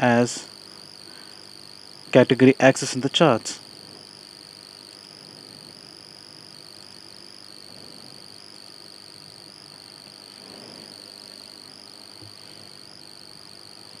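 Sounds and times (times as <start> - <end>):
faint hiss: 0.0 - 14.0
high-pitched whine: 0.0 - 14.0.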